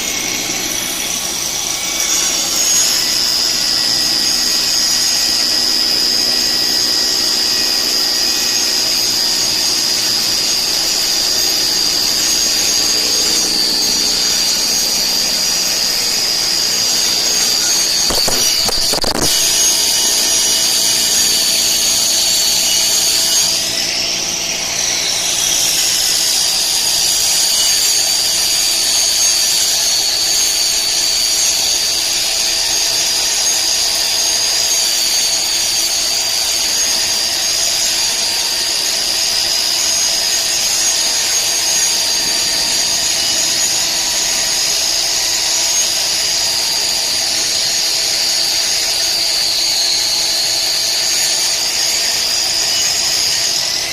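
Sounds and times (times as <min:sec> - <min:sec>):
power tool motor whining: 0:00.0 - 0:53.9.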